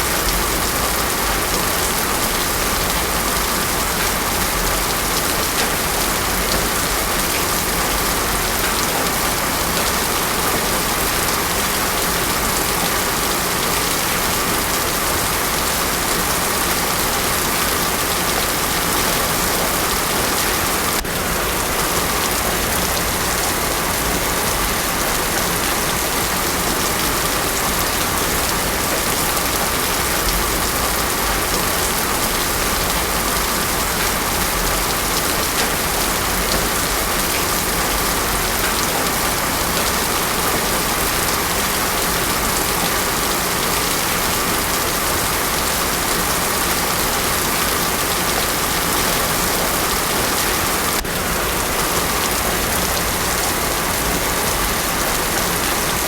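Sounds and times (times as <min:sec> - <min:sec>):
heavy rain pouring on road: 0:00.0 - 0:56.0.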